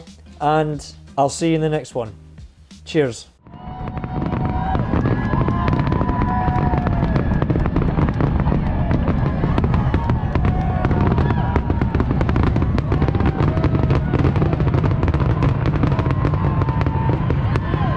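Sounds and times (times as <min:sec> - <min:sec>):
fireworks crackling and banging: 0:03.4 - 0:17.9.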